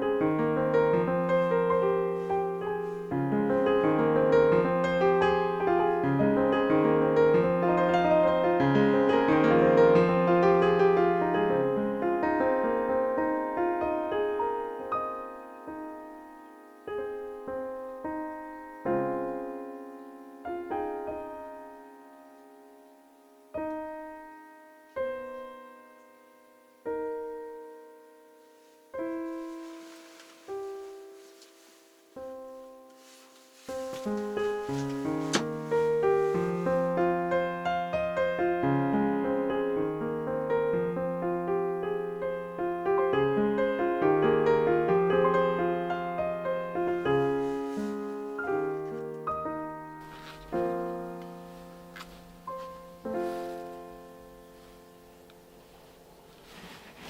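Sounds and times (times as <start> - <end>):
solo piano: 0.0 - 57.0.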